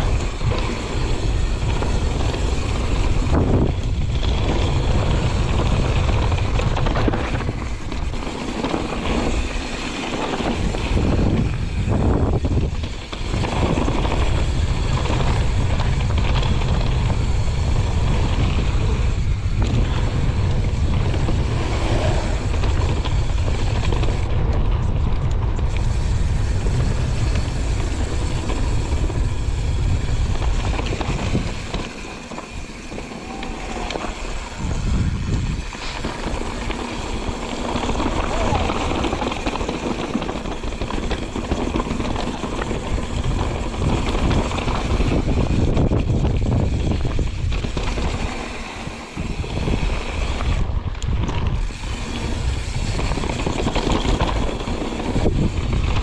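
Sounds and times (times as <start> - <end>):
bike tyre noise on trail: 0.0 - 56.0
wind rushing over microphone: 0.0 - 56.0.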